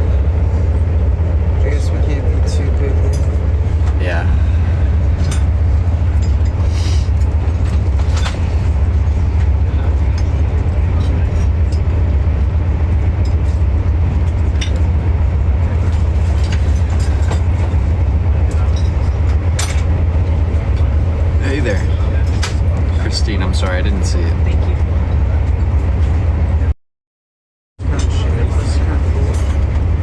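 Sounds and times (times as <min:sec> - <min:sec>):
train rumbling inside carriage: 0:00.0 - 0:26.7, 0:27.8 - 0:30.0.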